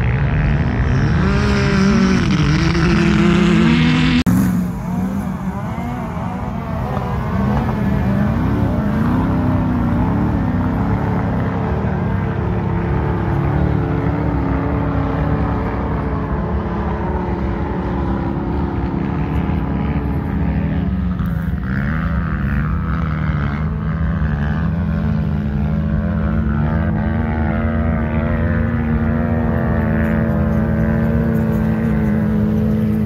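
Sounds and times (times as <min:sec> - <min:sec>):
off-road vehicle engines running: 0:00.0 - 0:33.0
wavering higher engine tone: 0:00.0 - 0:33.0.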